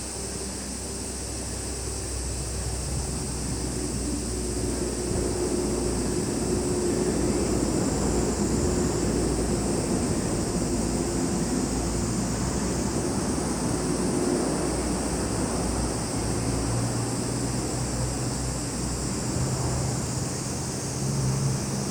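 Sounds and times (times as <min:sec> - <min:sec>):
cicadas and crickets chorus: 0:00.0 - 0:21.9
low steady rumble: 0:00.0 - 0:21.9.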